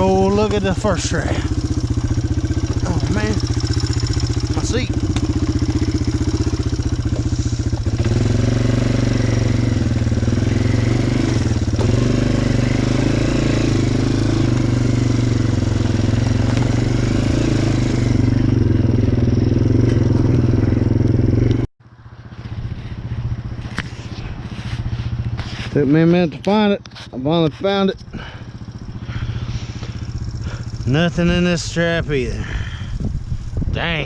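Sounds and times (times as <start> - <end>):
small vehicle engine running: 0.0 - 33.6.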